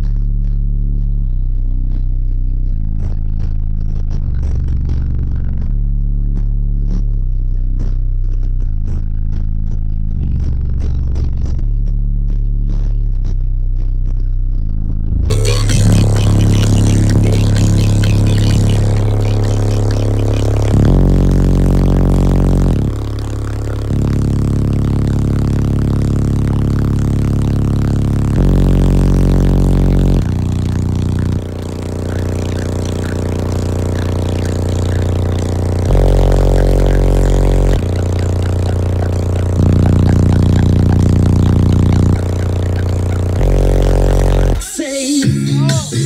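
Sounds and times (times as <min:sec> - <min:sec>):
loud deep subwoofer bass notes: 0:00.0 - 0:46.0.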